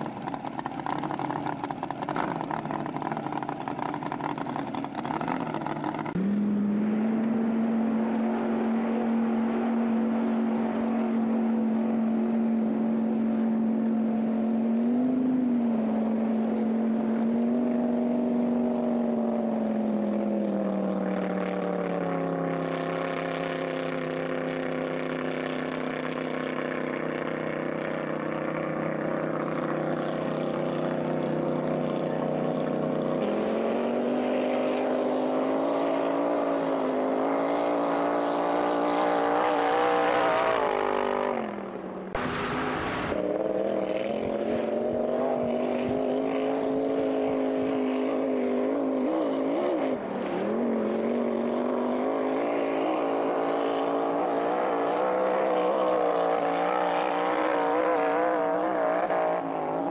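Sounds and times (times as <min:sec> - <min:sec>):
racing boat engine drone: 0:00.0 - 0:59.9.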